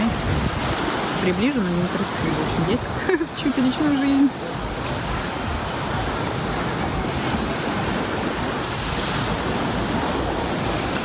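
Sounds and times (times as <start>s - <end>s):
waves washing onto sand: 0.0s - 11.0s
wind on microphone: 0.0s - 11.0s.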